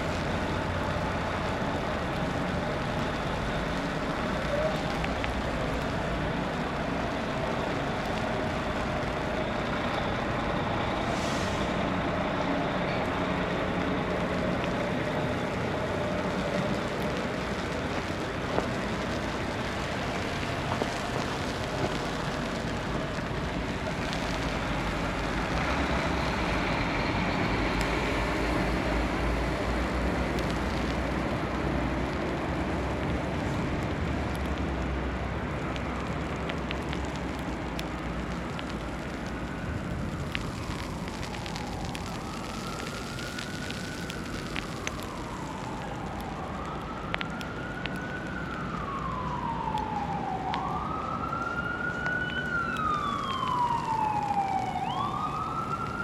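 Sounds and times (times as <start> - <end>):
traffic hiss: 0.0 - 56.0.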